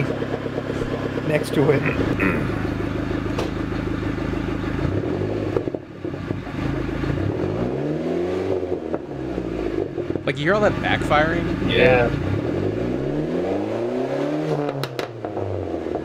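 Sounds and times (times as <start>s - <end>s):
car engine revving: 0.0s - 16.0s
exhaust backfiring pops: 0.0s - 16.0s.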